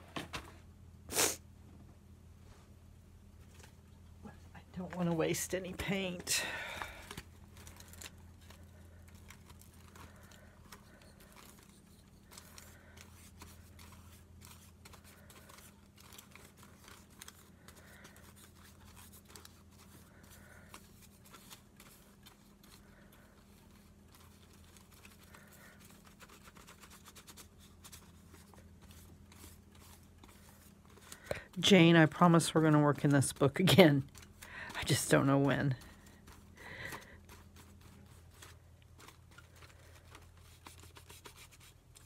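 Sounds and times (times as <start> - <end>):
paper and tools rustling: 4.8 - 42.0.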